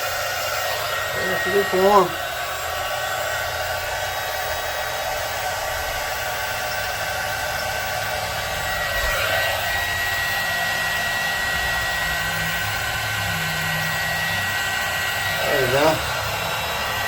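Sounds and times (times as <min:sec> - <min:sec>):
heat gun blowing whir: 0:00.0 - 0:17.0
steady high whine: 0:00.0 - 0:17.0.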